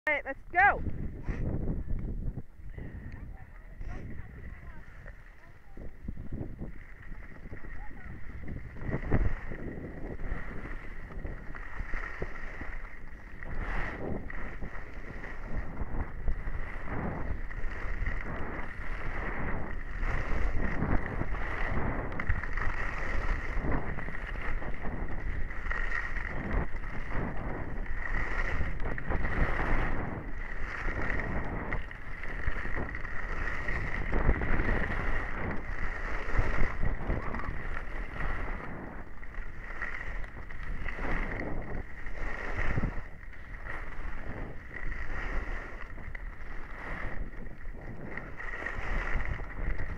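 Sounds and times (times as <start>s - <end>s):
skis scraping over snow: 0.1s - 49.9s
wind rushing over camera: 0.1s - 49.9s.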